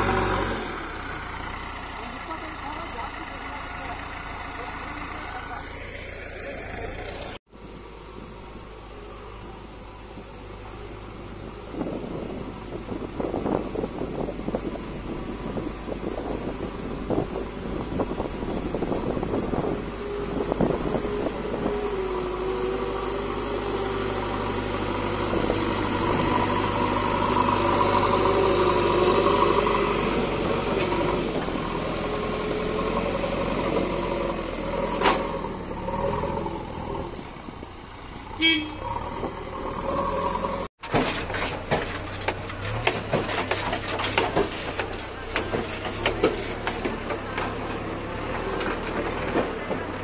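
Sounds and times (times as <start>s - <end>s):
diesel engine under load: 0.0s - 50.0s
tractor engine from inside cab: 0.0s - 50.0s.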